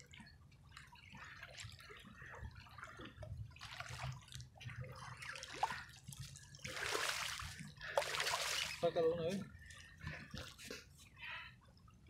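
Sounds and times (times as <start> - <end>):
shallow water splashing: 0.0 - 10.8.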